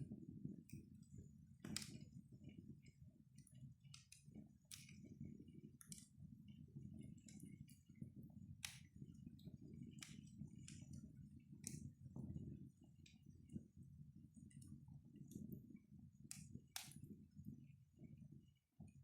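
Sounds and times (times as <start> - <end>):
wood fire crackling and popping: 0.0 - 18.3.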